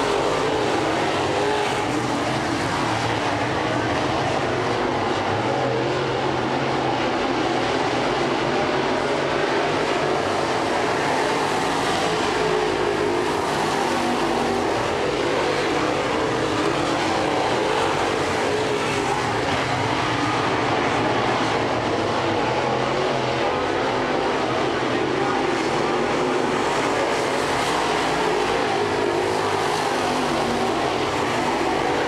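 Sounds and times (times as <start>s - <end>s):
race car engines droning: 0.0s - 32.0s.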